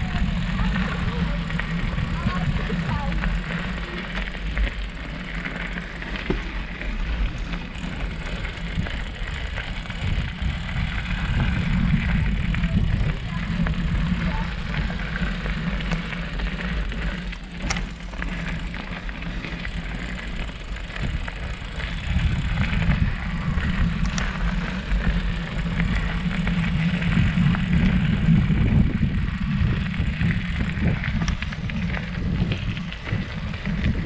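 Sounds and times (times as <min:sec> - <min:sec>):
bike tyres rumbling on dirt: 0:00.0 - 0:34.0.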